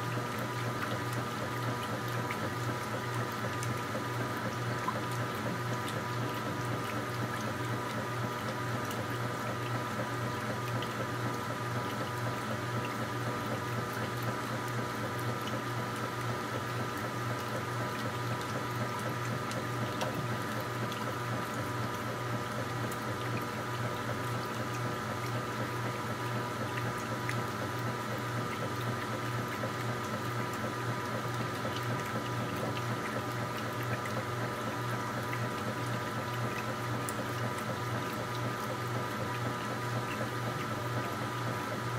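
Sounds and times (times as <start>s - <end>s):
washing machine water churning: 0.0s - 41.9s.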